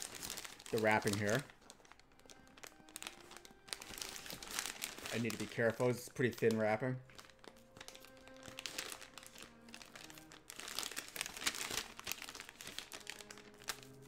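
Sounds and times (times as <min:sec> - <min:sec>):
faint background music: 0:00.0 - 0:14.0
plastic bag crinkling: 0:00.0 - 0:14.0.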